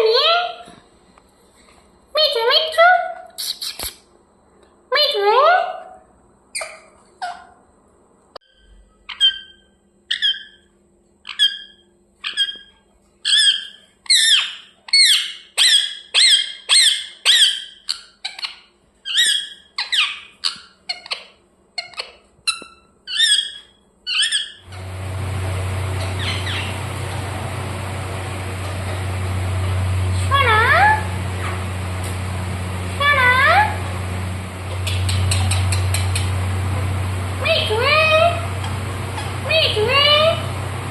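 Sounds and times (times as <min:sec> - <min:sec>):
low hum with hiss: 0:00.0 - 0:40.9
parrot chirping: 0:03.4 - 0:04.0, 0:06.5 - 0:07.6, 0:08.4 - 0:40.9.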